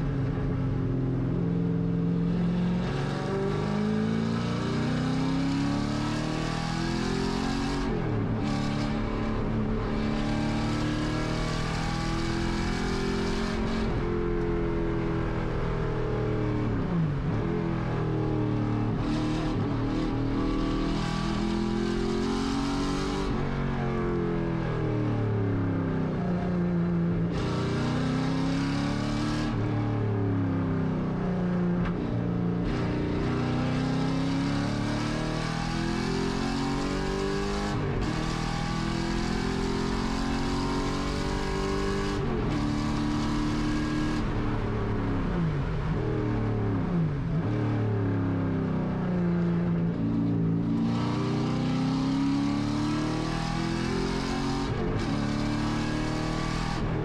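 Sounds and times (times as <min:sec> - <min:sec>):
race car engine revving: 0:02.2 - 0:15.5, 0:16.4 - 0:24.1, 0:27.2 - 0:29.7, 0:31.8 - 0:47.5, 0:49.4 - 0:57.0.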